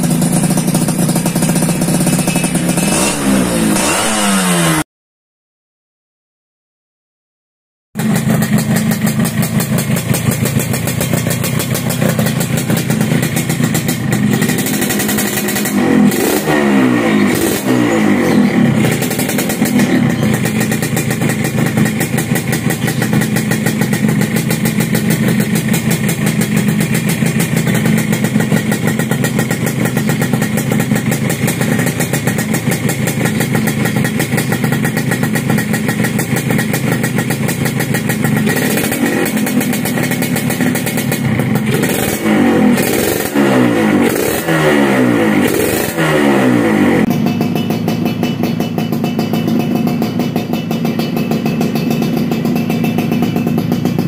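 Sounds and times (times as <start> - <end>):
motorcycle engine idling and revving: 0.0 - 4.9, 8.0 - 54.0.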